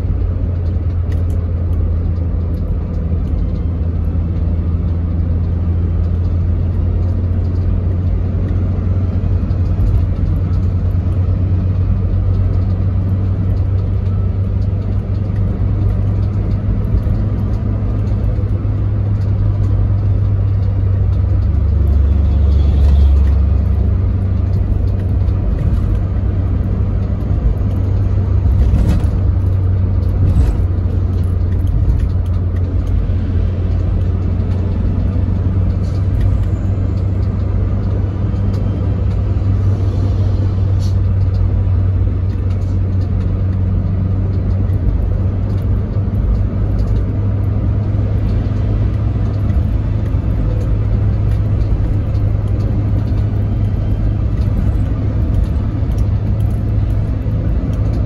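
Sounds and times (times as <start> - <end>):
car cabin tyre and engine rumble: 0.0 - 58.0.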